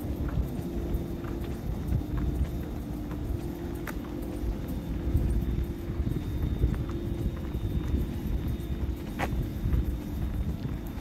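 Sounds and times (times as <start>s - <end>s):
faint steady hum: 0.0s - 11.0s
train wheels rumbling on rail: 0.0s - 11.0s.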